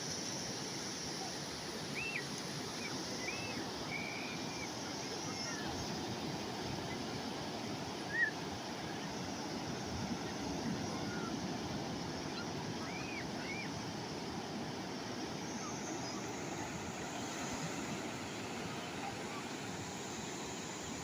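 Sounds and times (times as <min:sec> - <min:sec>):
sea waves washing: 0:00.0 - 0:21.0.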